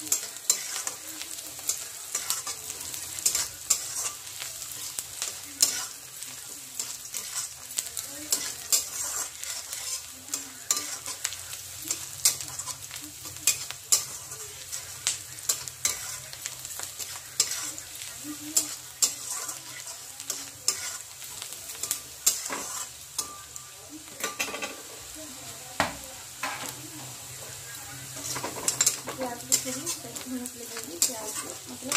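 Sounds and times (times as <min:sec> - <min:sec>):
metal spatula scraping pan: 0:00.0 - 0:12.8, 0:13.4 - 0:23.6, 0:28.1 - 0:31.9
onions sizzling in hot oil: 0:00.0 - 0:31.9.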